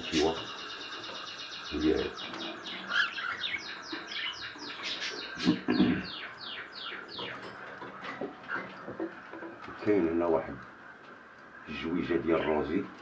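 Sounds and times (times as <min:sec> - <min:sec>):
cage birds chirping: 0:00.0 - 0:13.0.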